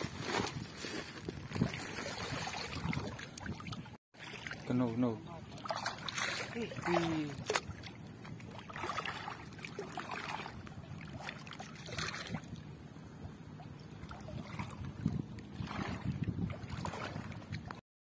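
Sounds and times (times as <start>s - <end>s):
water splashing and sloshing: 0.0s - 17.8s.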